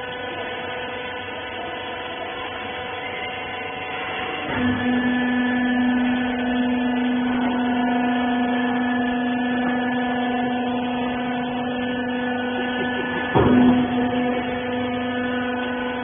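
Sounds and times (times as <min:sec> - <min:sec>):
hydraulic pump humming: 0:00.0 - 0:16.0.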